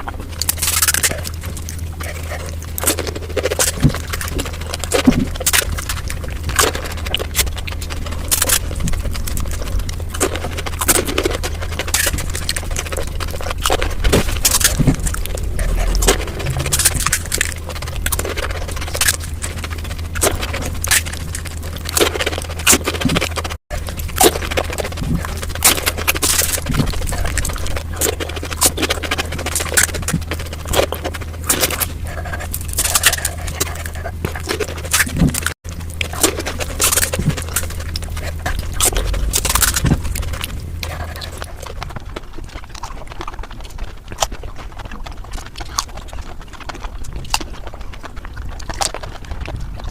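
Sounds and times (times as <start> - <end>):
low hum: 0.0 - 43.4
crunching and chewing: 0.0 - 49.9.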